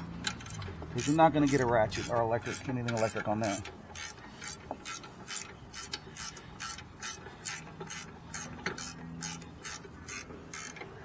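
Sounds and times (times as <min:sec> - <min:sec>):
ratchet wrench clicking: 0:00.2 - 0:10.9.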